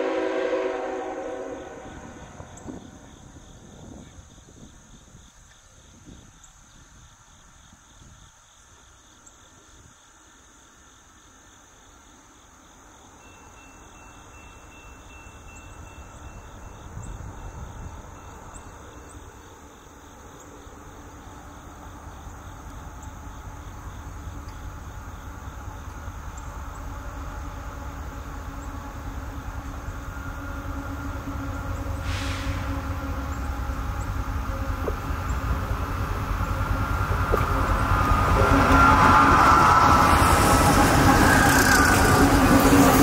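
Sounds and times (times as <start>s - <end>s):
diesel locomotive engine rumble: 0.0s - 9.9s, 12.5s - 43.0s
insects chirping: 0.0s - 43.0s.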